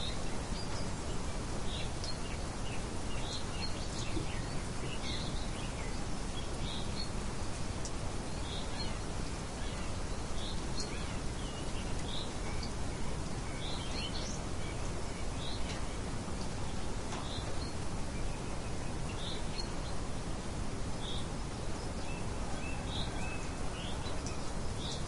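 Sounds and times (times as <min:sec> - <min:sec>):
light wind hiss: 0:00.0 - 0:25.0
small songbirds chirping: 0:00.0 - 0:25.0.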